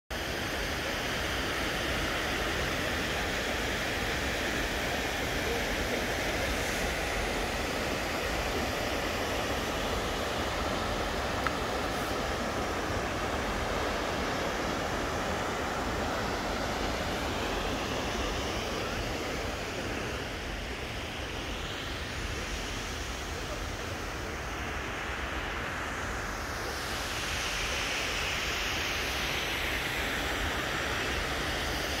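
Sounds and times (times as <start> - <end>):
steady rushing noise: 0.1 - 32.0.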